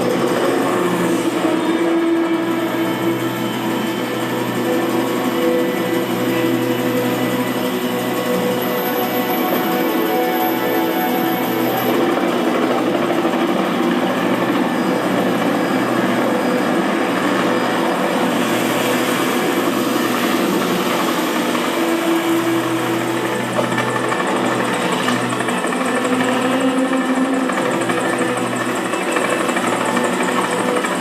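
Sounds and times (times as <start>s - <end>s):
engine drone from film soundtrack: 0.0s - 31.0s.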